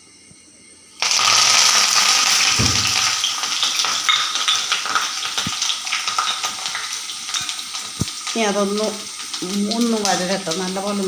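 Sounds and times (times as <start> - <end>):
food sizzling in hot oil: 0.9 - 11.0.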